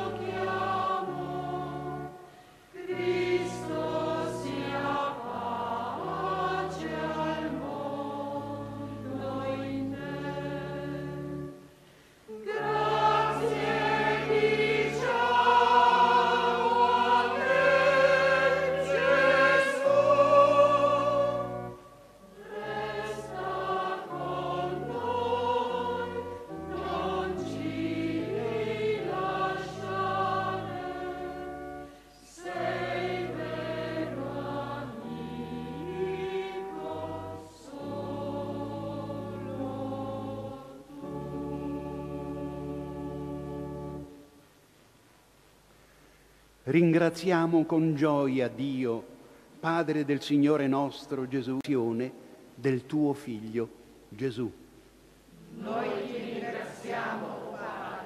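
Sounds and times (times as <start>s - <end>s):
choir singing a hymn: 0.0s - 44.4s, 55.3s - 58.0s.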